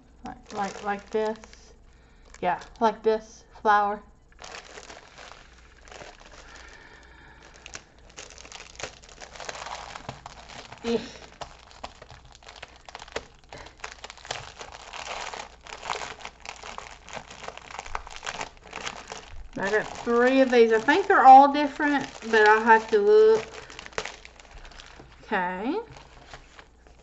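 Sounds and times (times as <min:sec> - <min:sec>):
plastic bag crinkling: 0:00.3 - 0:02.9, 0:04.3 - 0:27.0.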